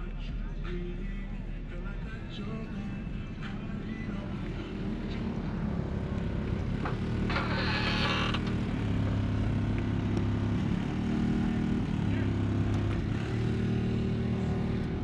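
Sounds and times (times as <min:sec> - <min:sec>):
engine running low drone: 0:00.0 - 0:15.0.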